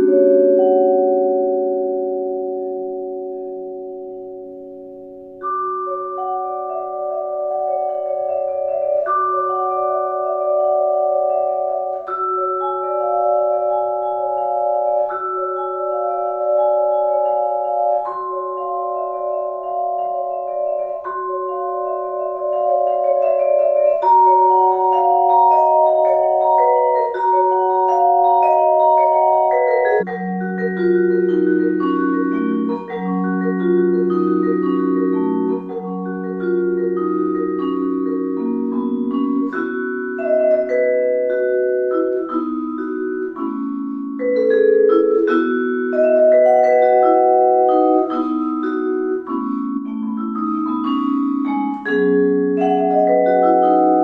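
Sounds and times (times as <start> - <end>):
vibraphone chords: 0.0 - 54.0.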